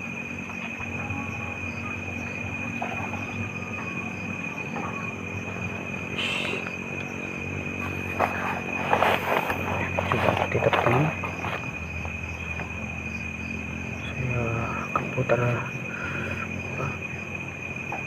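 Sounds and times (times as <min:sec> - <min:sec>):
night insects trilling: 0:00.0 - 0:18.0.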